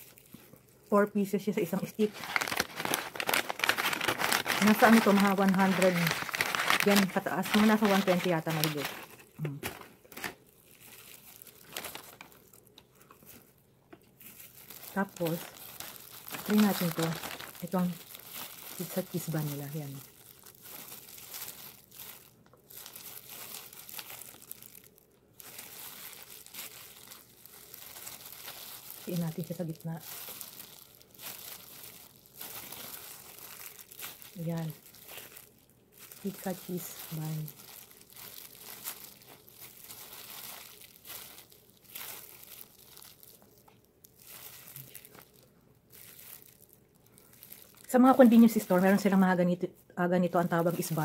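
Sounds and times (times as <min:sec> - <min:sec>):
plastic wrapper crinkling: 0:00.0 - 0:51.0.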